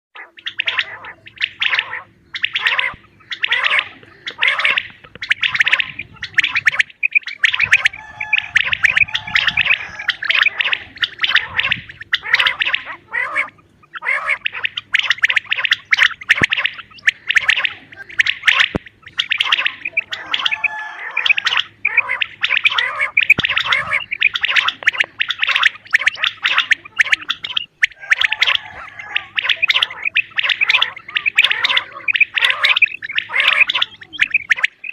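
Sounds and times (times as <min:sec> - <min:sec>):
quail calling: 0:00.2 - 0:34.9.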